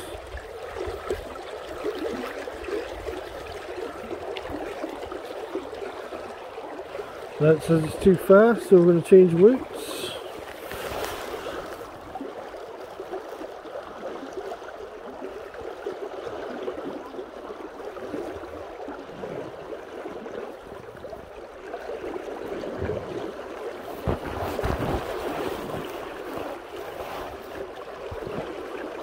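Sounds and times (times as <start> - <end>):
river water flowing: 0.0 - 29.0.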